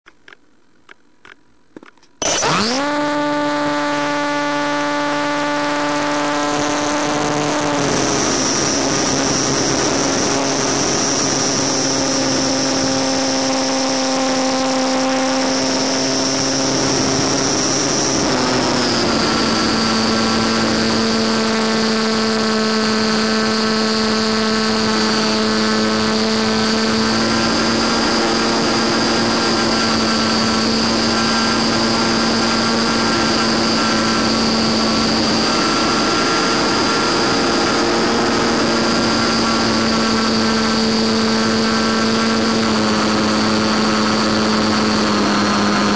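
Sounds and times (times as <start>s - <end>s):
electric motor propeller whine: 2.2s - 45.9s.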